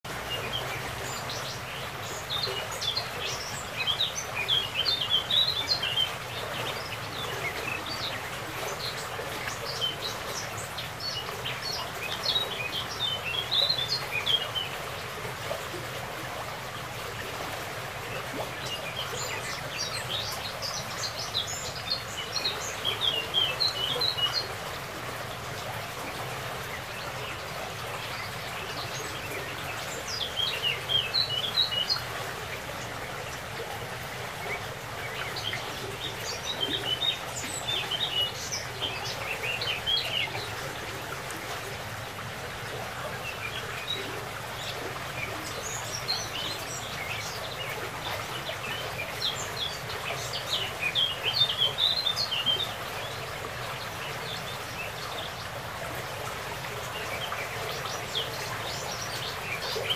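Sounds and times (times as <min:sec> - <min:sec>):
songbird chirping: 0:00.0 - 0:55.8
stream rushing: 0:00.0 - 0:59.9.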